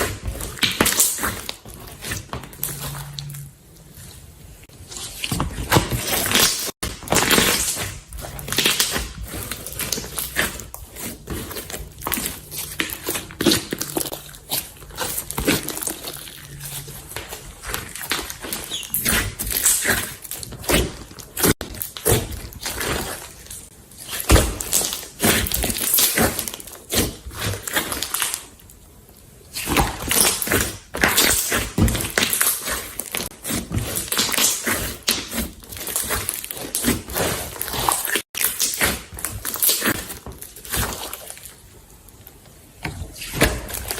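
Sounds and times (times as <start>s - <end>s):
slime squishing and crackling: 0.0s - 43.9s.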